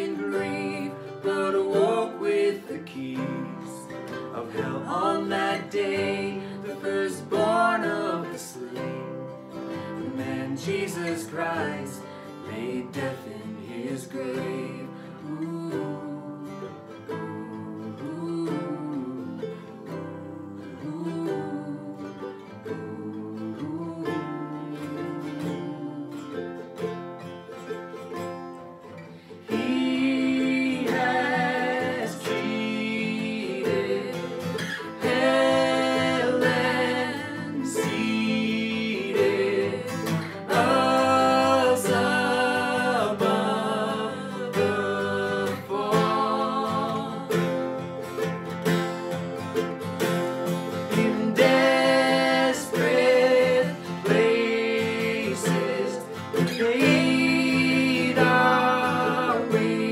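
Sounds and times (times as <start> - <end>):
man and woman singing: 0.0 - 27.0, 28.8 - 59.9
acoustic guitar: 0.0 - 59.9
ukulele: 0.0 - 59.9.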